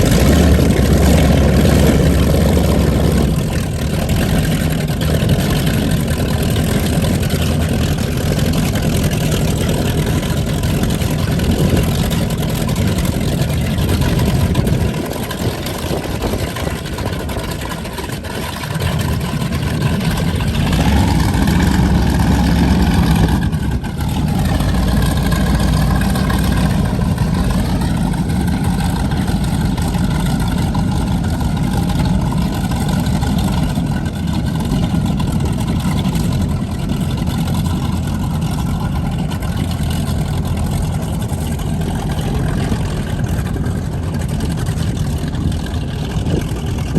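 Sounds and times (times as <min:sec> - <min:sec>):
powerboat engines running: 0:00.0 - 0:46.9.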